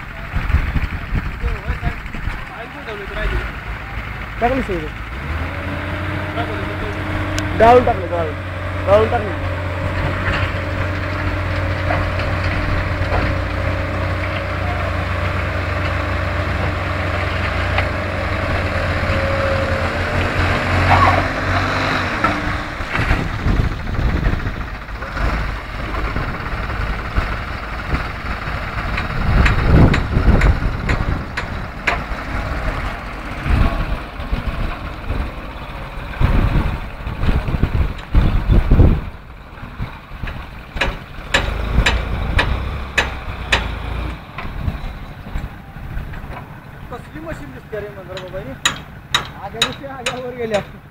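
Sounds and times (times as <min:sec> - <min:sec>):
tractor diesel engine droning: 0:00.0 - 0:50.9.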